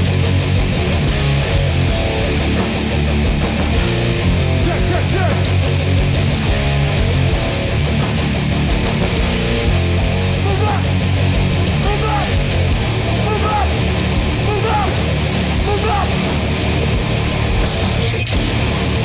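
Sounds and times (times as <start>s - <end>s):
bending guitar notes: 0.0s - 19.0s
heavy hardcore music: 0.0s - 19.0s.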